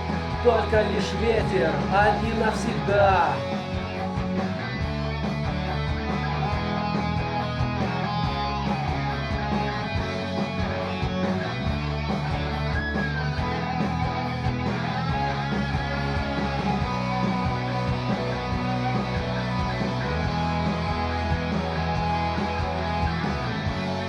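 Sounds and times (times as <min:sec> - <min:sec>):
guitar: 0:00.0 - 0:24.0
steady beat and bass: 0:00.0 - 0:24.0.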